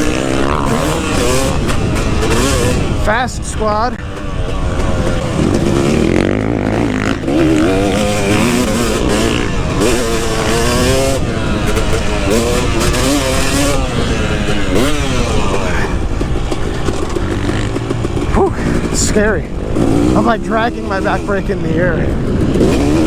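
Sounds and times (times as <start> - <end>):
motocross engine revving: 0.0 - 23.0.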